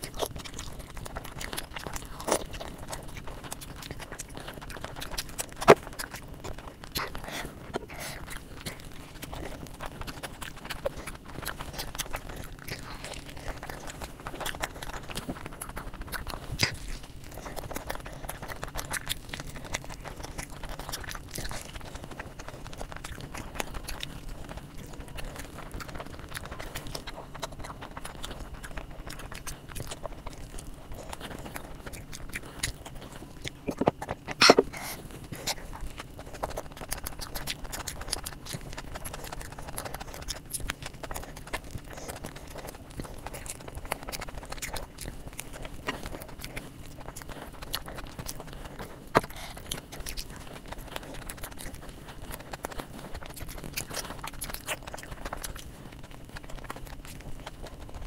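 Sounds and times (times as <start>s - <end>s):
person chewing and biting food: 0.0s - 58.0s
wet mouth clicks: 0.0s - 58.0s.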